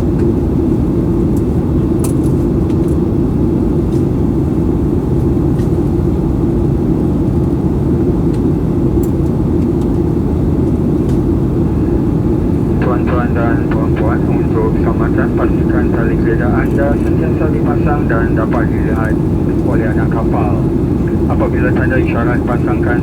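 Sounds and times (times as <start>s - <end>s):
jet engines and airflow rush: 0.1s - 23.0s.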